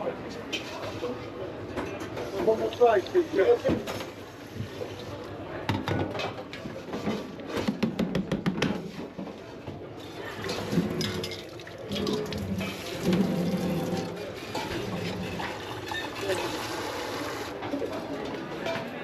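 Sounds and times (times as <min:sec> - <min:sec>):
kitchen background noise: 0:00.0 - 0:19.0.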